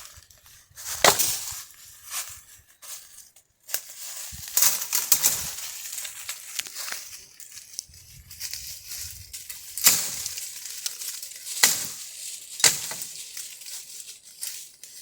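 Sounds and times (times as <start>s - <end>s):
dry branches crunching and snapping: 0.0s - 15.0s.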